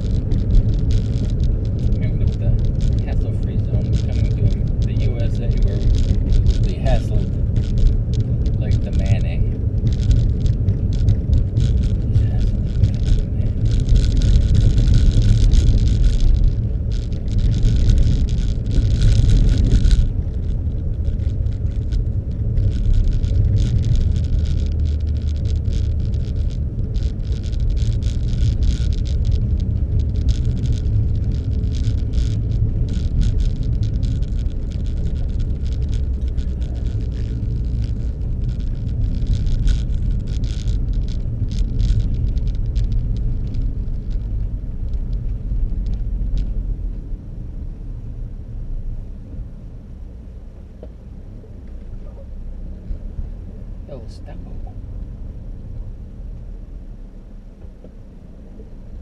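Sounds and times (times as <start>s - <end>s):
car engine rumble: 0.0s - 59.0s
crackling rattling noise: 0.0s - 59.0s.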